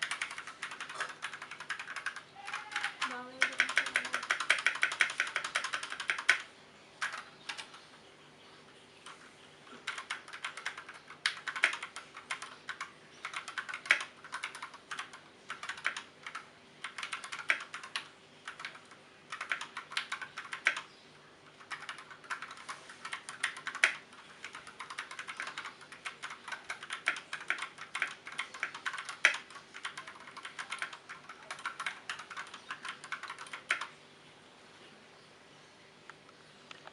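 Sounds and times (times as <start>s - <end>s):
mechanical keyboard typing: 0.0s - 7.8s, 9.0s - 33.9s.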